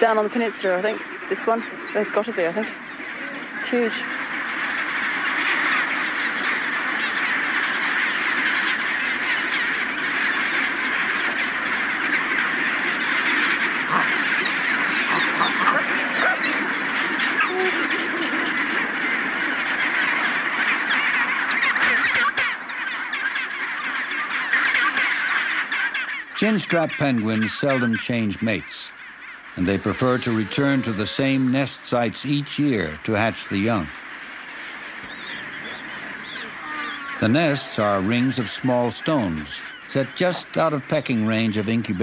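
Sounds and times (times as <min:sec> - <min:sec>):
penguin colony calling: 0:00.0 - 0:42.0.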